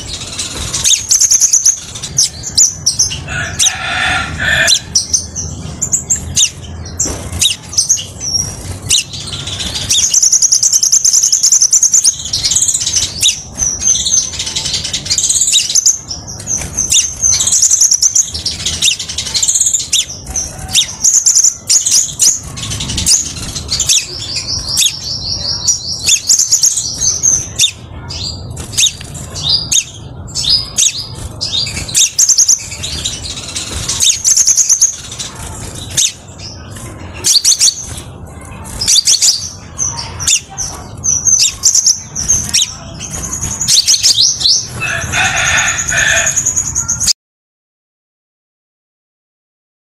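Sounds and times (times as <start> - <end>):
bird chirping and trilling: 0.0 - 47.2.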